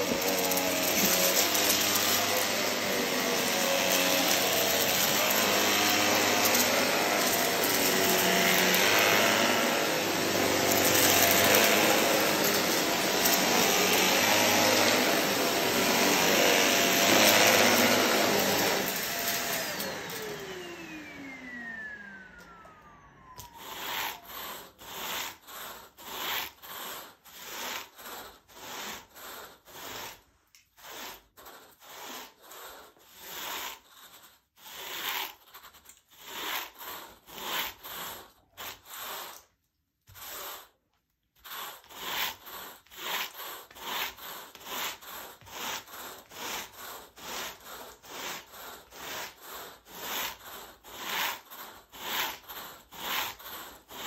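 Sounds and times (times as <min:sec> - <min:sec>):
rake scratching through carpet: 0:00.0 - 0:20.9, 0:23.4 - 0:39.5, 0:40.1 - 0:40.8, 0:41.4 - 0:54.0.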